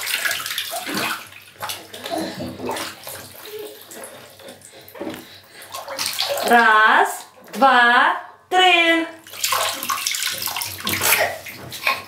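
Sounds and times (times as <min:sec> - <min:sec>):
bath water splashing: 0:00.0 - 0:07.8, 0:09.1 - 0:12.0.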